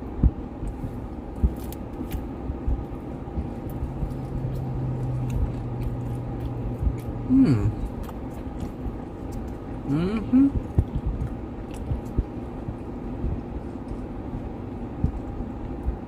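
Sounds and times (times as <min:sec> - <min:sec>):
low steady drone: 0:00.0 - 0:16.0
steady background hum: 0:00.0 - 0:16.0
quiet eating noises: 0:00.6 - 0:16.0.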